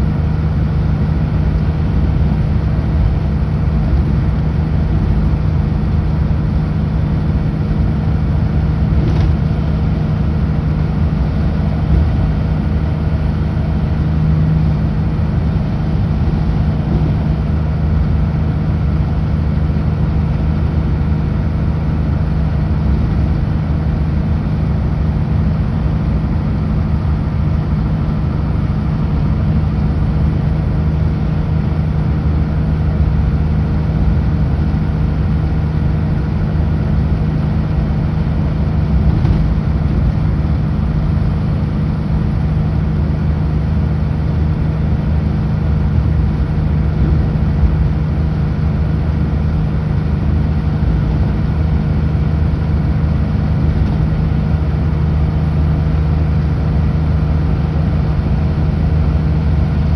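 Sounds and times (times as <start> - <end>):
road noise: 0.0 - 59.9
truck diesel engine running: 0.0 - 59.9.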